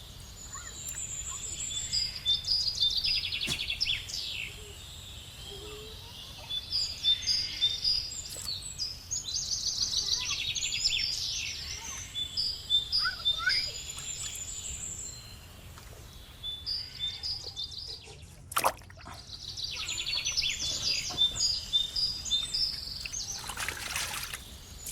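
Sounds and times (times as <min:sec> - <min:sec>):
birds chirping and trilling: 0:00.0 - 0:24.9.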